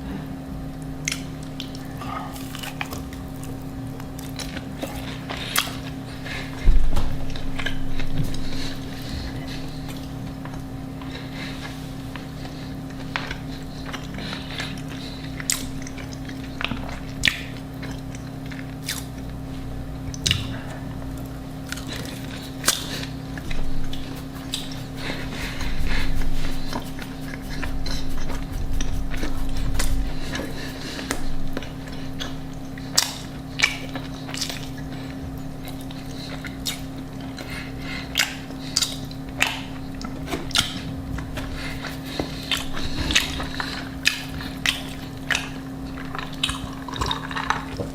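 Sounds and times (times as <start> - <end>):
steady low hum: 0.0 - 47.9
chewing and biting food: 0.8 - 47.9.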